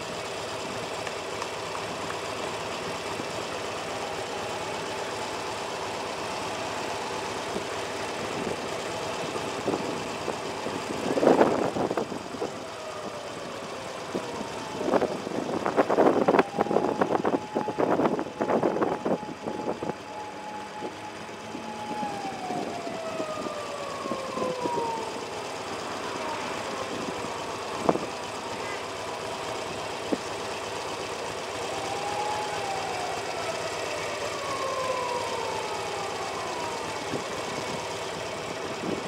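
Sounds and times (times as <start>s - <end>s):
motorcycle engine idling: 0.0s - 39.0s
vehicles passing: 0.0s - 39.0s.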